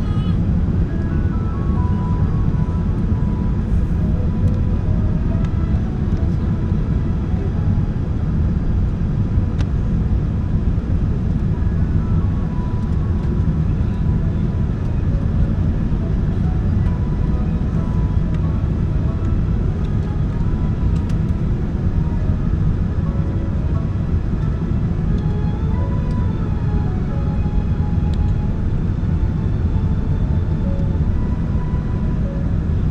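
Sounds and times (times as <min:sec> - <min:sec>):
jet engine low rumble: 0:00.0 - 0:32.9.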